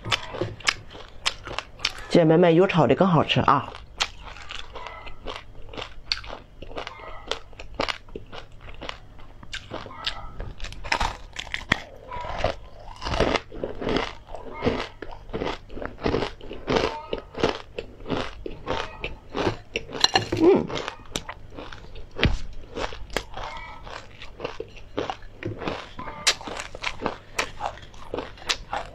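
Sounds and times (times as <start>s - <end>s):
crunching and chewing crisp food: 0.0s - 2.2s, 3.4s - 28.9s.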